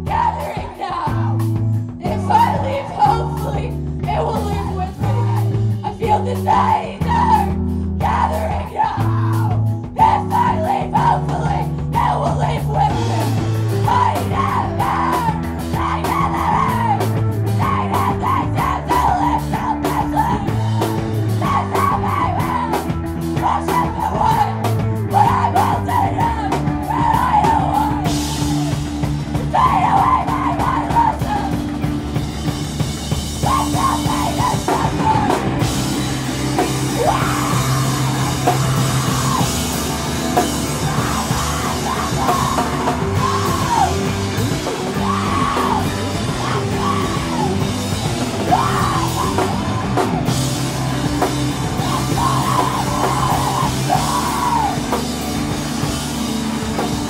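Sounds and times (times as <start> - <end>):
rock band playing loud: 0.0 - 57.0
vocalist yelling: 4.2 - 31.8, 33.4 - 55.0.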